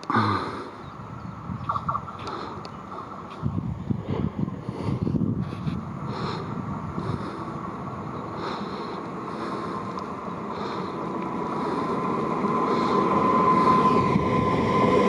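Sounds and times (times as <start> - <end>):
high whine: 0.0 - 15.0
train rumble: 0.0 - 15.0.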